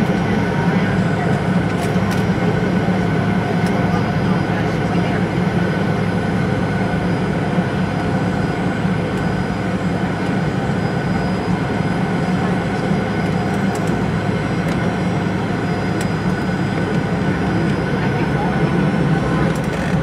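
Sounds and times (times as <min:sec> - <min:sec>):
jet engines humming and whining: 0:00.0 - 0:20.0.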